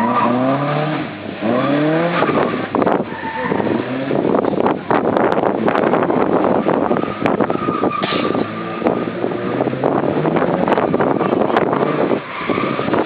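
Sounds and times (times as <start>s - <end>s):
car engine running hard: 0.0s - 13.0s
wind rush on microphone: 1.7s - 13.0s.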